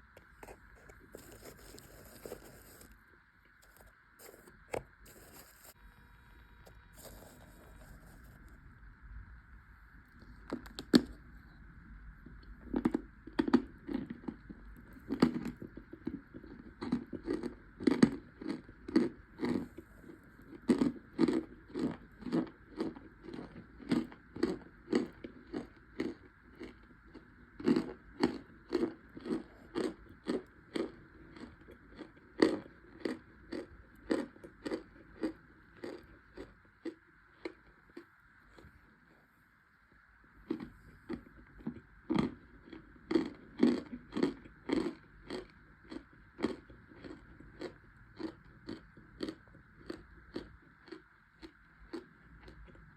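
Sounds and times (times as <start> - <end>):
crunchy chewing: 0.0 - 5.8, 6.6 - 8.7, 10.1 - 39.2, 40.4 - 52.9.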